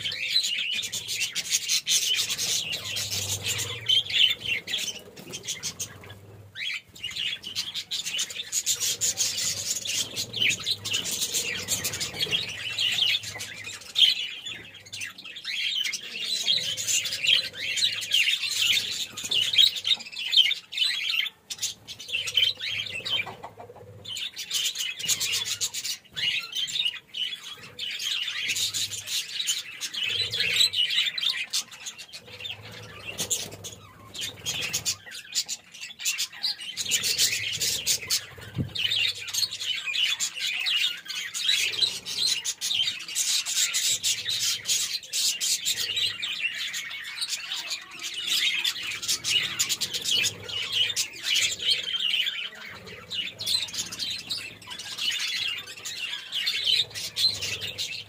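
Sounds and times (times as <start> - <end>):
budgerigar flock chattering: 0.0 - 58.0.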